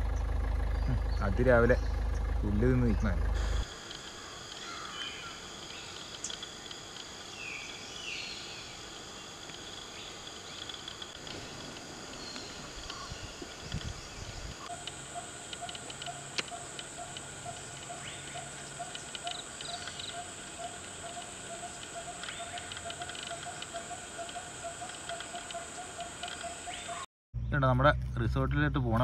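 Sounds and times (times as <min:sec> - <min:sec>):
high insect drone: 0:00.8 - 0:27.0.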